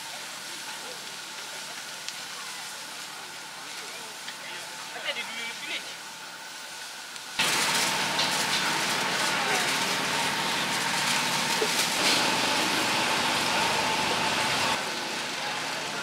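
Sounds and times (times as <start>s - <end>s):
meat sizzling on a griddle: 0.0s - 16.0s.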